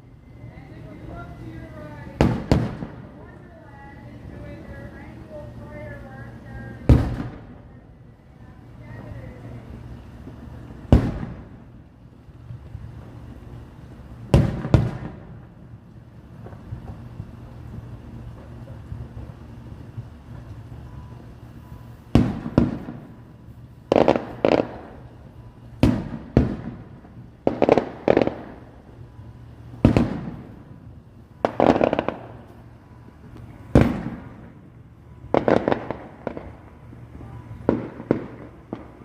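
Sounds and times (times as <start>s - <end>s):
fireworks rumble: 0.0s - 39.0s
fireworks bangs: 0.7s - 7.8s, 8.8s - 11.8s, 14.1s - 39.0s.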